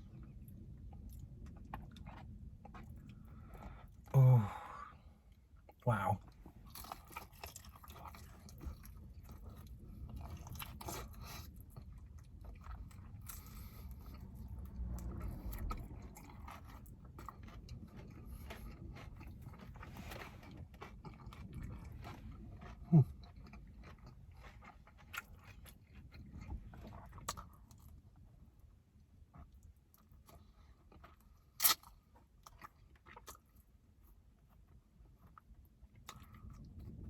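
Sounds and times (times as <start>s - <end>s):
chewing crunches and mouth clicks: 0.0s - 4.2s, 5.2s - 37.0s
steady low rumble: 0.0s - 30.6s, 34.1s - 37.0s.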